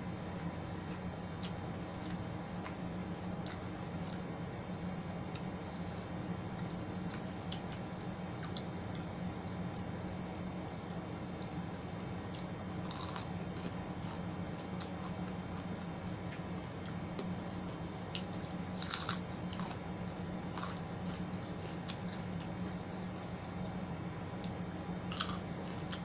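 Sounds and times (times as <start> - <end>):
food crunches: 0.3 - 4.2, 5.3 - 9.2, 11.3 - 23.6, 24.3 - 26.0
chewing and biting: 0.3 - 4.3, 5.3 - 9.8, 11.3 - 23.6, 24.4 - 26.0.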